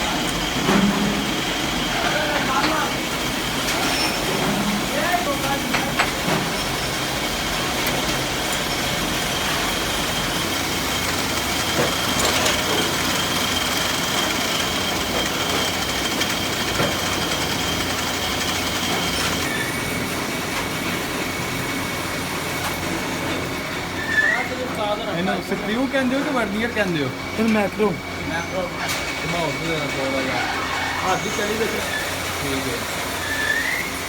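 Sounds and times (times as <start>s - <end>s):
workshop machine noise: 0.0s - 34.0s.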